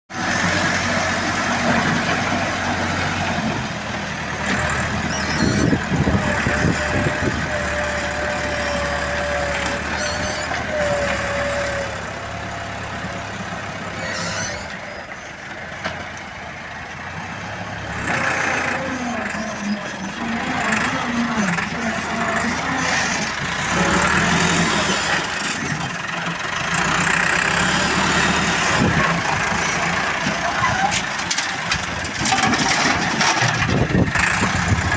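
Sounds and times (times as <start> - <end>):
heavy machinery engine running: 0.1 - 34.9.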